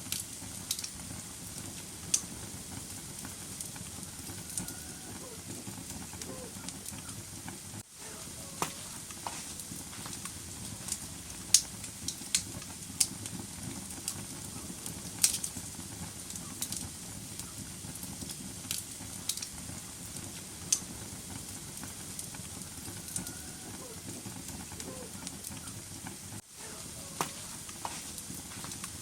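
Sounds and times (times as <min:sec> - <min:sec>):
fire crackling and popping: 0:00.0 - 0:29.0
wood fire burning: 0:00.0 - 0:29.0.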